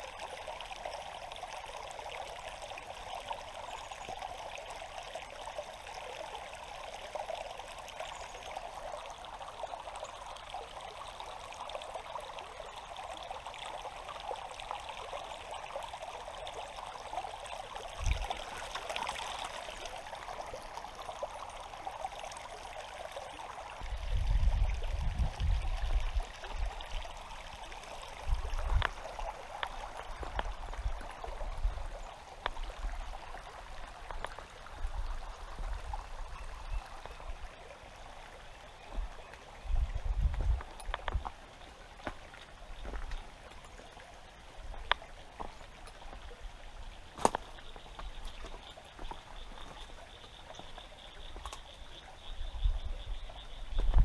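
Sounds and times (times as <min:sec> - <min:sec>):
river water trickling over rocks: 0:00.0 - 0:54.0.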